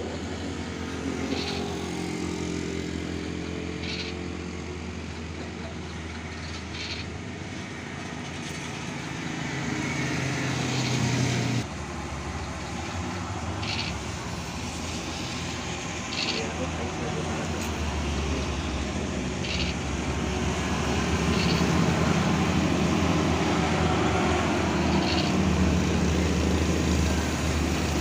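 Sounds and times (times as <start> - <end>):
heavy truck engine pulling uphill: 0.0 - 28.0.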